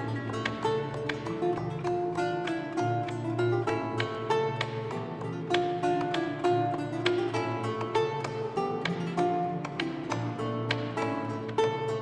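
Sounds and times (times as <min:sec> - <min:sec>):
plucked string instrument: 0:00.0 - 0:12.0.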